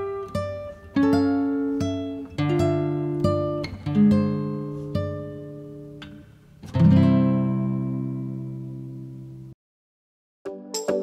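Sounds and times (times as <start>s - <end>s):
acoustic guitar: 0.0s - 9.6s.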